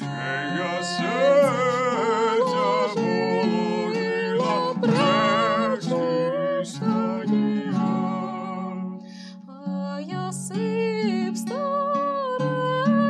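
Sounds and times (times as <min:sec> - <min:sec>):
plucked lute: 0:00.0 - 0:13.0
woman singing folk melody: 0:00.0 - 0:13.0.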